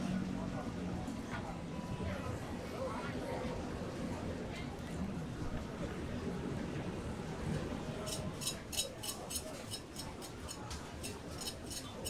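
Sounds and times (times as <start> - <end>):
faint market murmur: 0.0 - 12.0.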